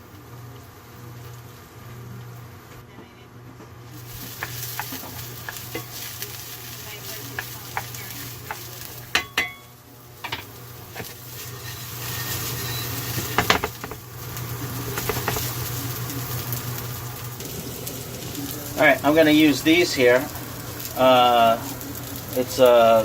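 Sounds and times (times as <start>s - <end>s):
food sizzling in a pan: 3.7s - 23.0s.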